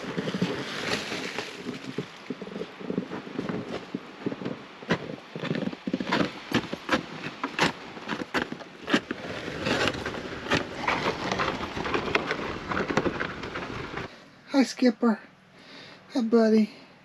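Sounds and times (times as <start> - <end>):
footsteps crunching through snow: 0.0 - 14.1.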